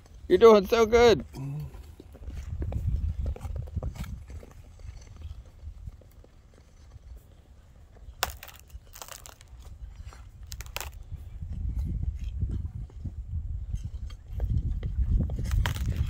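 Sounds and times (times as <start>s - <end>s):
scrapes and crunches on ice: 1.2s - 13.1s, 13.7s - 16.0s.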